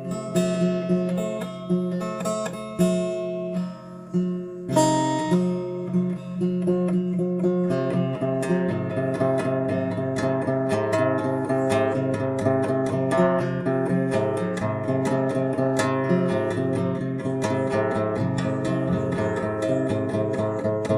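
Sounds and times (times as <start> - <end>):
acoustic guitar: 0.0 - 20.9.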